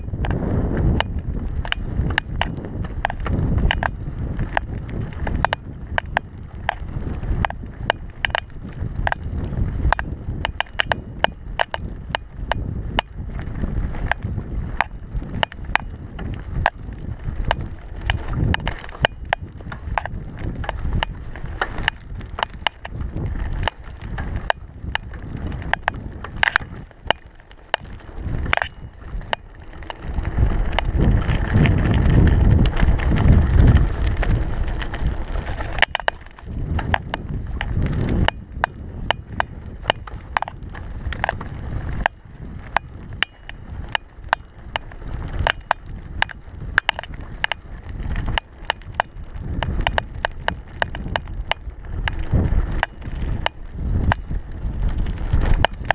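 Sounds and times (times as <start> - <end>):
bike frame and chain knocks: 0.0 - 13.2, 14.0 - 31.5, 34.4 - 54.3
bike rattling over dirt trail: 0.0 - 55.9
wind noise on microphone: 0.0 - 55.9.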